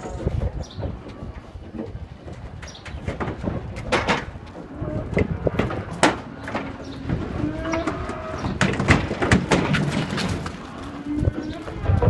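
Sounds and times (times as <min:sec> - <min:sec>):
cattle hooves on metal ramp: 0:00.0 - 0:12.0.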